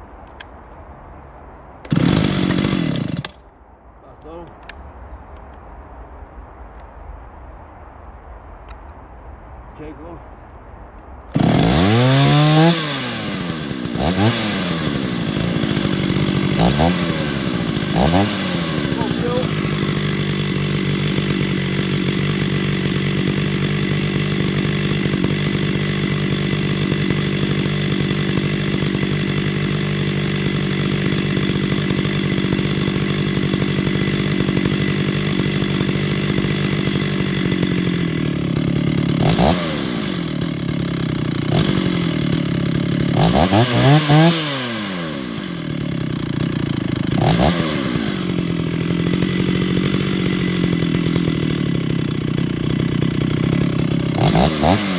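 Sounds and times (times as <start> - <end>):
chainsaw idling and revving: 1.8 - 3.4, 11.3 - 54.9.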